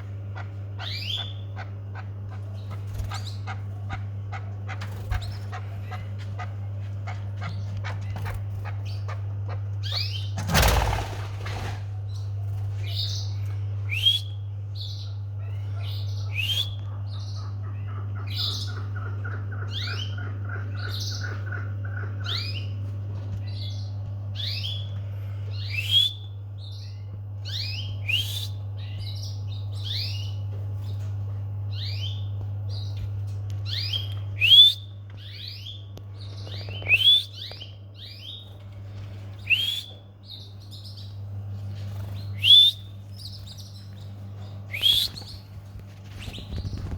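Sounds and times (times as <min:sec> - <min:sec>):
canaries chirping: 0:00.0 - 0:22.8, 0:23.4 - 0:46.9
steady low hum: 0:00.0 - 0:46.9.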